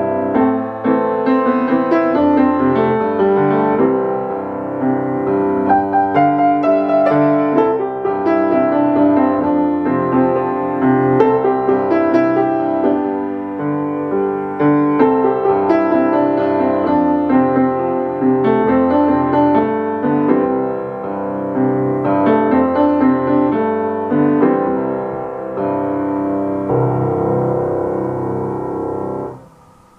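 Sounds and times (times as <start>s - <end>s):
keyboard melody over chords: 0.0s - 29.7s.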